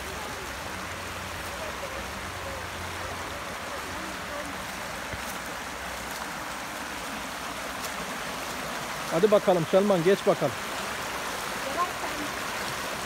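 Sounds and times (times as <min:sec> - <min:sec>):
creek water rushing over rocks: 0:00.0 - 0:13.0.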